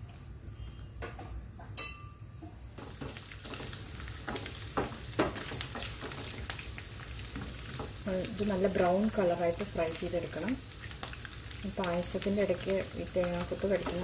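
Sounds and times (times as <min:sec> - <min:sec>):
food sizzling in a pan: 0:02.3 - 0:14.0.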